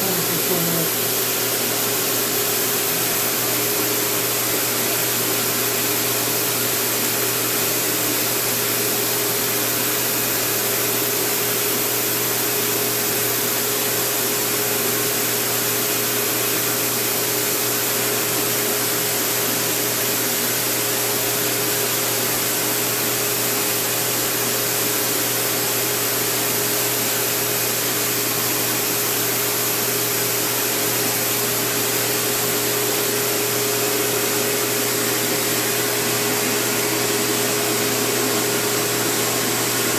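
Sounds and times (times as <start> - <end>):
electric air blower running: 0.0 - 39.9.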